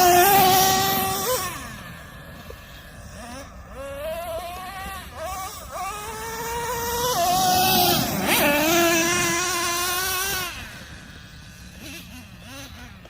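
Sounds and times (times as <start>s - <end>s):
small nitro engine revving: 0.0s - 13.0s.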